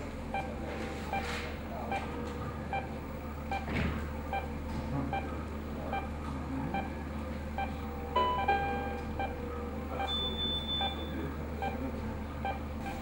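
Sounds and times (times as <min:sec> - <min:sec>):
steady low hum: 0:00.0 - 0:13.0
patient monitor beeping: 0:00.2 - 0:13.0.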